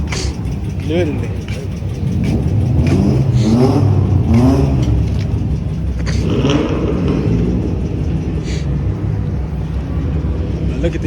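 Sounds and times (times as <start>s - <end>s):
car engine revving: 0.0s - 11.0s
engine idle rumble: 0.0s - 11.0s.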